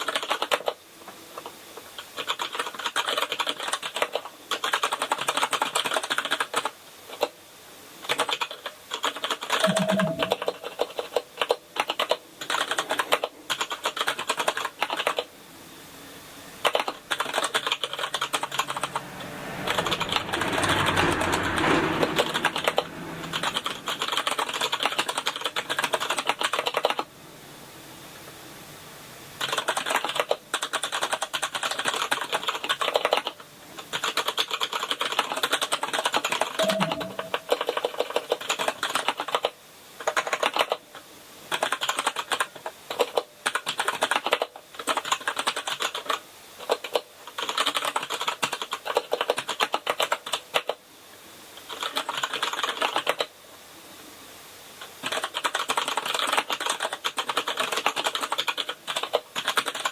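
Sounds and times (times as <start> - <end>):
typing on mechanical keyboard: 0.0 - 0.8, 1.4 - 7.4, 8.0 - 15.3, 16.6 - 18.9, 19.7 - 27.1, 29.4 - 40.8, 41.5 - 50.8, 51.6 - 53.3, 54.8 - 59.9.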